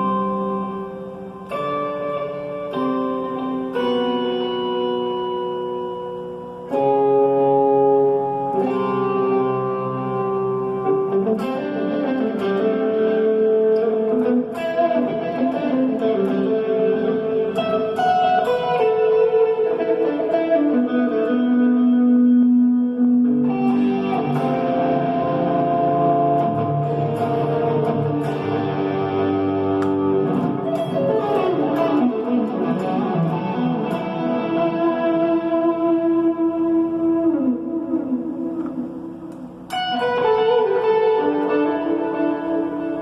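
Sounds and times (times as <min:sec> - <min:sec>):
electric guitar notes and chords: 0:00.0 - 0:43.0.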